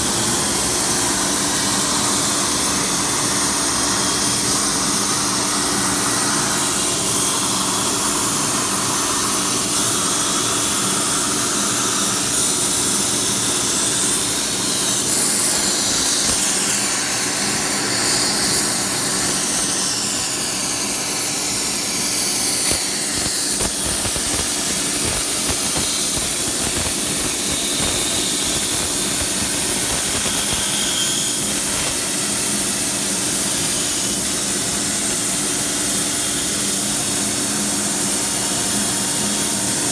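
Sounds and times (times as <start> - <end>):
cutting torch hissing: 0.0 - 34.4.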